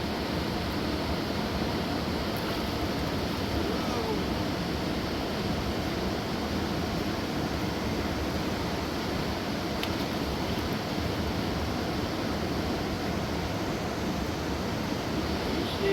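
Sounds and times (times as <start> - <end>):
river rushing over rocks: 0.0 - 15.9.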